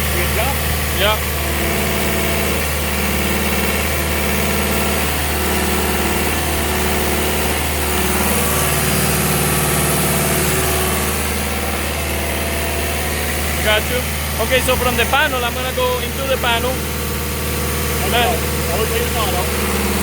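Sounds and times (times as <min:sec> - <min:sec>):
concrete pump engine hum: 0:00.0 - 0:20.0.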